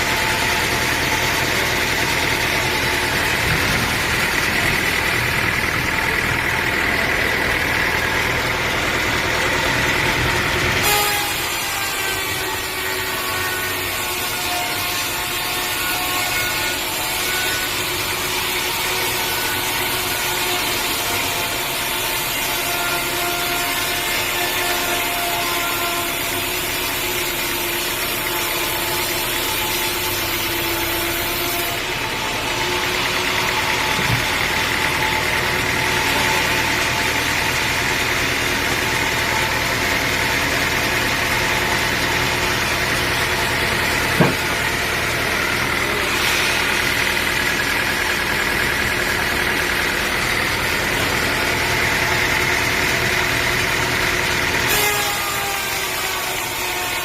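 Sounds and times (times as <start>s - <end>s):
saw blade cutting log: 0.0s - 57.0s
steady engine: 0.0s - 57.0s.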